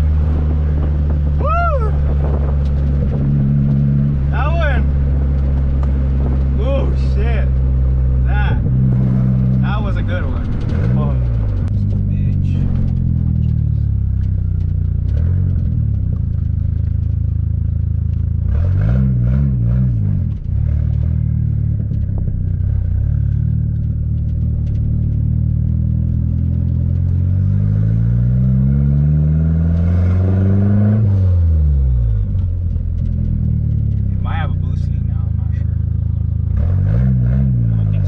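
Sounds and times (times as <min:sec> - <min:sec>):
turbocharged car engine revving: 0:00.0 - 0:38.0.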